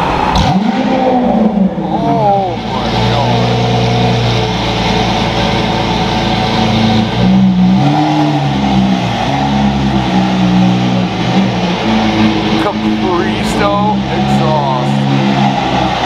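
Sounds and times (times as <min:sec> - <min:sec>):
loud sports car engine: 0:00.0 - 0:16.0.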